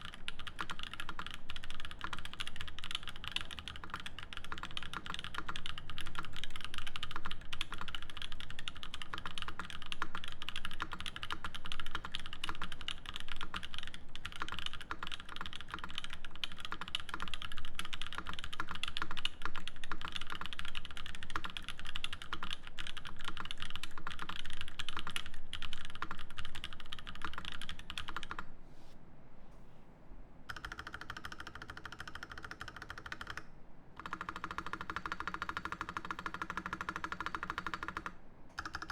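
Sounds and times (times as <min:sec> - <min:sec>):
mechanical keyboard typing: 0:00.0 - 0:28.5, 0:30.5 - 0:38.9.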